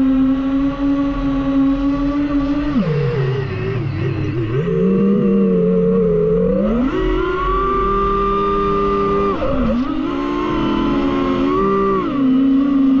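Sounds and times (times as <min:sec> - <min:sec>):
drone propellers whining: 0:01.1 - 0:13.0.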